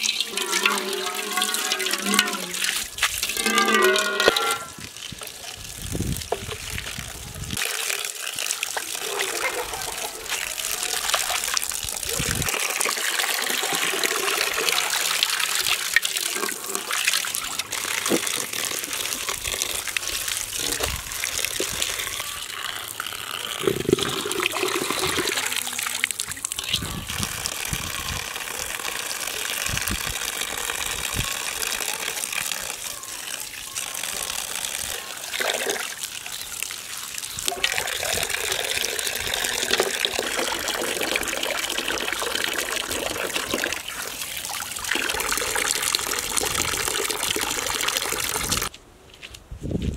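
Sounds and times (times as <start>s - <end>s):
water splashing onto stones: 0.0s - 48.7s.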